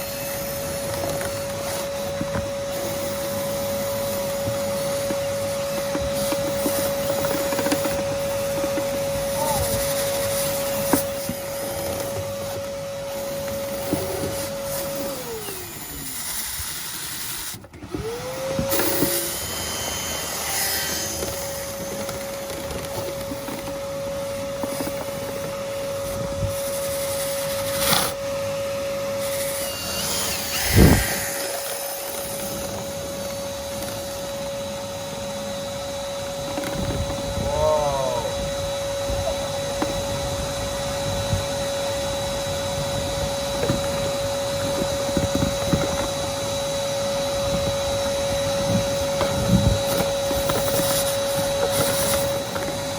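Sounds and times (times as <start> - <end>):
drill spinning brush rods: 0.0 - 52.9
shop vac whining: 0.0 - 52.9.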